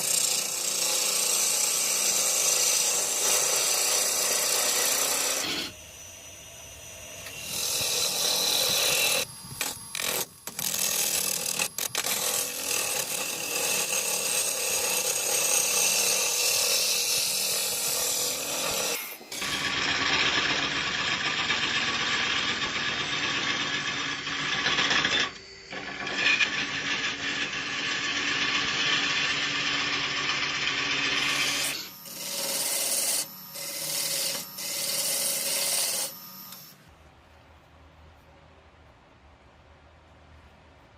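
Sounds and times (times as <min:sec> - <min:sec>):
lathe tool shaving wood: 0:00.0 - 0:36.7.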